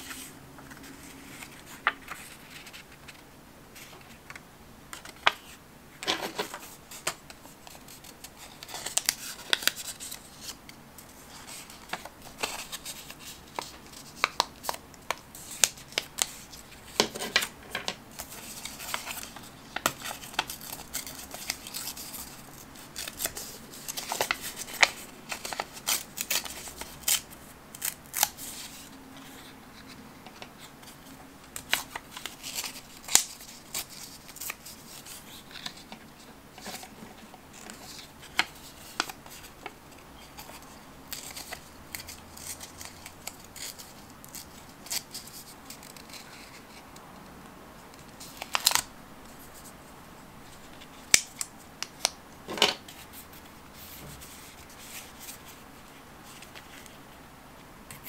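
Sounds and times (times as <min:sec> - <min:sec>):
paper crinkling and rustling: 0:00.0 - 0:03.2, 0:03.8 - 0:47.0, 0:48.0 - 0:49.7.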